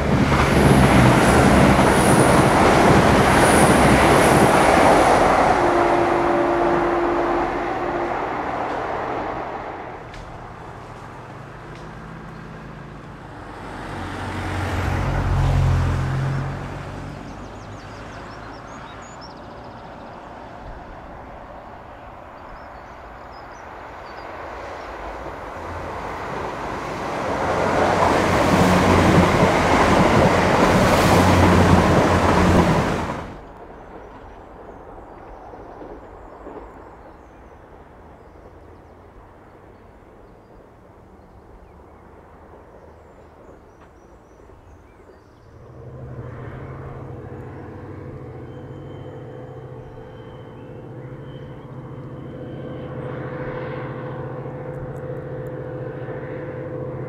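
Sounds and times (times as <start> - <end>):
diesel train passing: 0.0 - 57.0.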